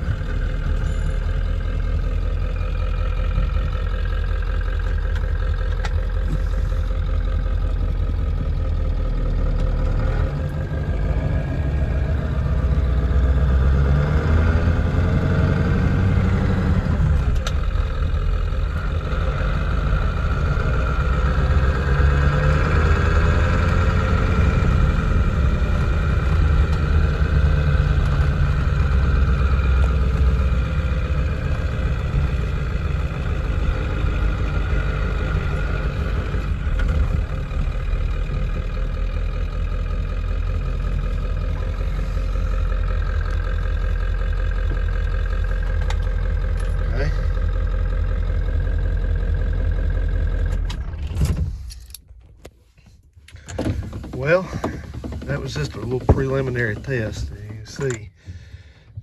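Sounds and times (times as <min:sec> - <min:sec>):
diesel truck engine driving: 0:00.0 - 0:59.0.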